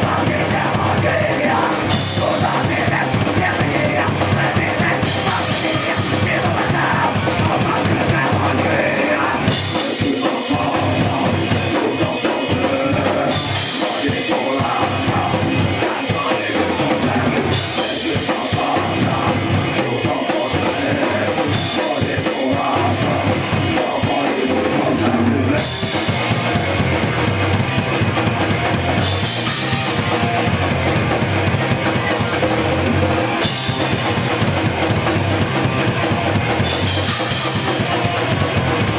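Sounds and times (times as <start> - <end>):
bass guitar: 0.0 - 38.9
drum kit rock beat: 0.0 - 38.9
electric guitar: 0.0 - 38.9.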